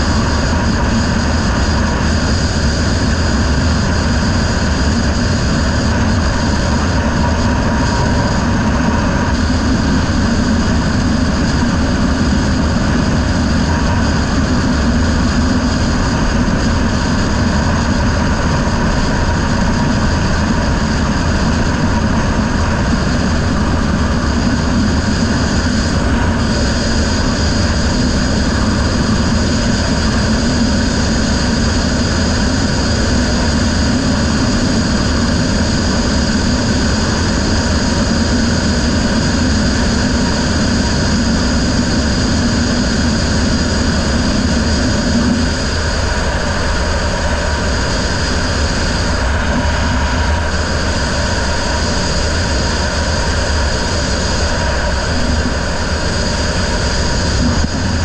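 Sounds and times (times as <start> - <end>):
dense rushing noise: 0.0 - 58.0
outboard motor running: 0.0 - 58.0.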